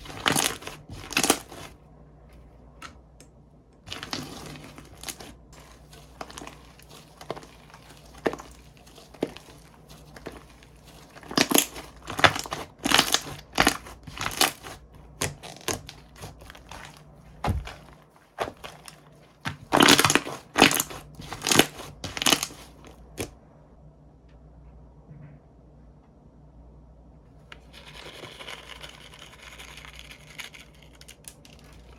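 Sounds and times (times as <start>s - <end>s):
slime crackling and squelching: 0.0s - 1.8s, 3.8s - 23.4s, 27.6s - 31.9s.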